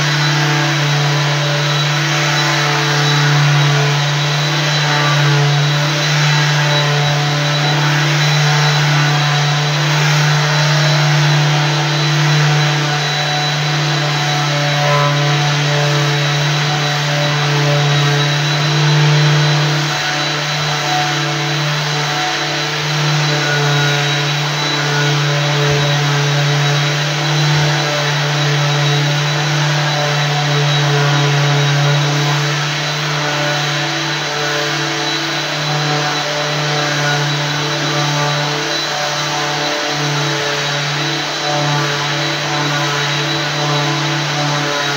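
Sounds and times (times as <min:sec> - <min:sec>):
floor sanding machine running: 0:00.0 - 0:44.9.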